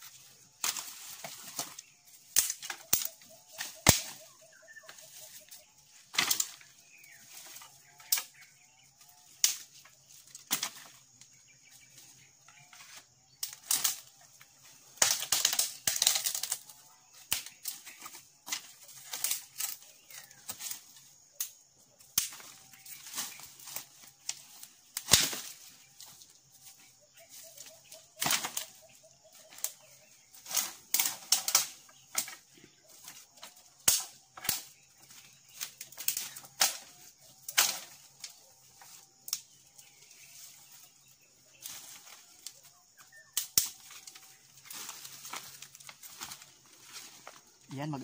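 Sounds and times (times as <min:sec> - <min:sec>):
dry leaves rustling: 0:00.0 - 0:21.4, 0:22.2 - 0:48.0
dry branches snapping: 0:00.5 - 0:11.0, 0:13.4 - 0:20.8, 0:21.4 - 0:40.5, 0:41.6 - 0:47.5.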